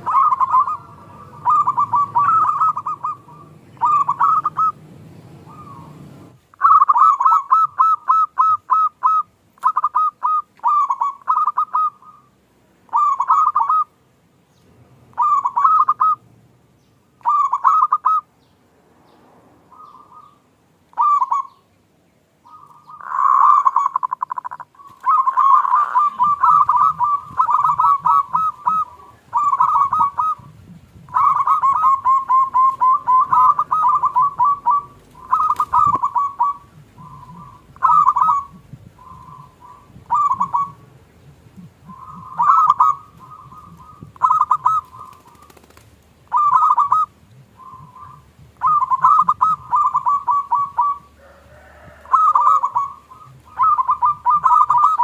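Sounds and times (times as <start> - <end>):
doves cooing: 0.0 - 14.0, 15.0 - 16.3, 17.2 - 18.3, 19.7 - 21.7, 22.4 - 55.0.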